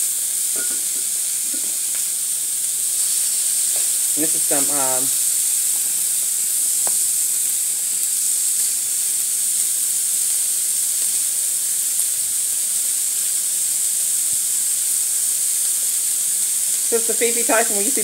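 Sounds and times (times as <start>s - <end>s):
omelet sizzling on griddle: 0.0s - 18.0s.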